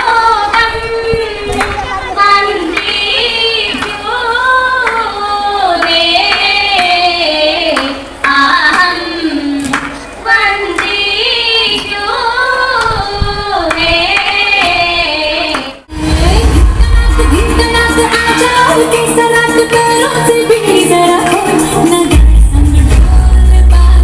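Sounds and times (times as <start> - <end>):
women singing: 0.0 - 24.0.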